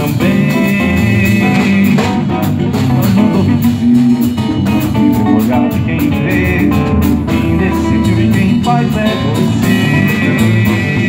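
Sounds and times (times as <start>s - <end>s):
acoustic guitar: 0.0s - 11.0s
drum beat: 0.0s - 11.0s
live band playing samba: 0.0s - 11.0s.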